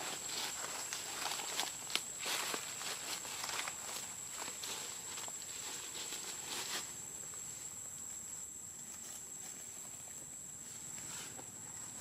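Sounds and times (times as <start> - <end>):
rustling in leaves and twigs: 0.0 - 12.0.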